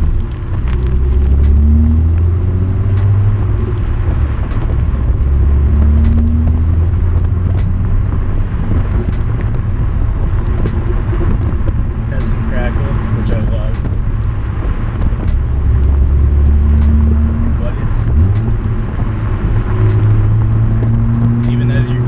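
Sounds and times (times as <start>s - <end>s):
car engine deep exhaust drone: 0.0s - 22.0s.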